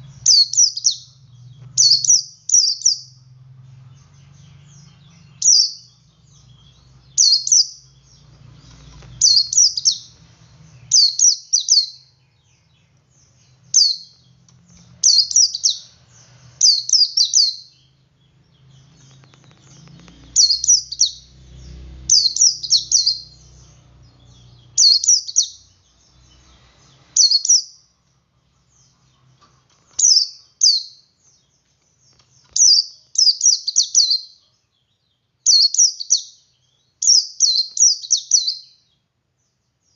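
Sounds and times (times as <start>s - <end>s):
white-eye bird singing: 0.0s - 39.9s.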